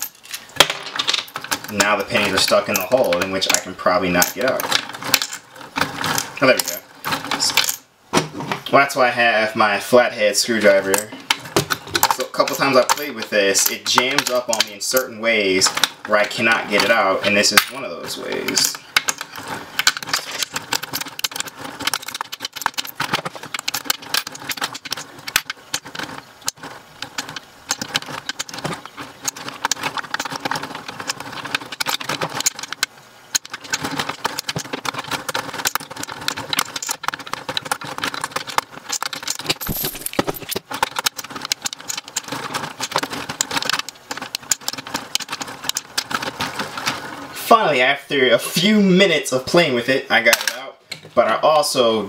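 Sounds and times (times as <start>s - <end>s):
coin sorter motor humming: 0.0s - 7.8s, 10.9s - 47.4s
coins rattling and clicking: 0.0s - 7.9s, 10.9s - 17.8s, 18.5s - 47.1s.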